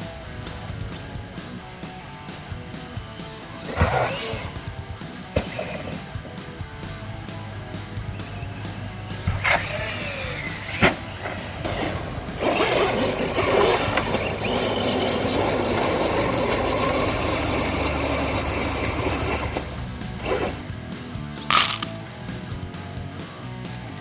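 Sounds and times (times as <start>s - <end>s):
electric motor whine: 0.0s - 20.9s
rough tyre noise: 0.0s - 23.1s.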